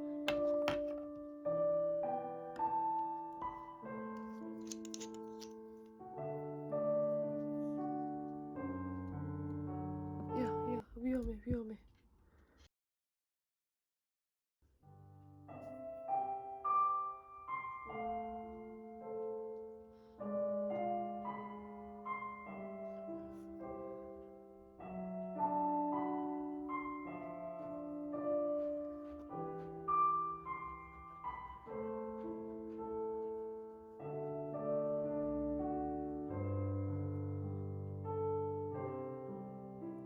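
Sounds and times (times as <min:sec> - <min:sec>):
piano music: 0:00.0 - 0:10.8, 0:14.9 - 0:40.0.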